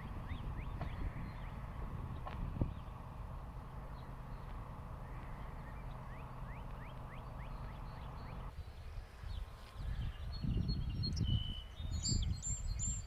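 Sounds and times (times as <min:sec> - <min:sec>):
outdoor background hiss: 0:00.0 - 0:12.8
songbird chirping: 0:00.0 - 0:13.0.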